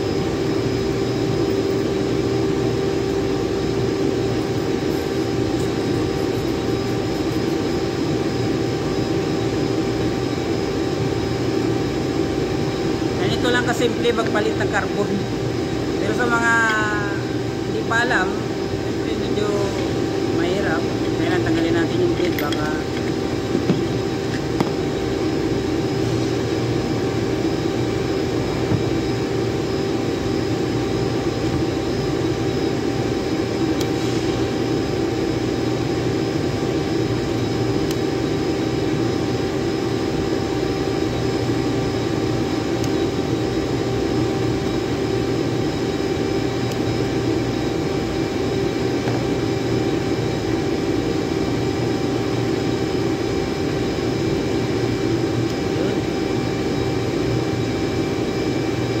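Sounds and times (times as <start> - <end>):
machinery droning: 0.0 - 59.0.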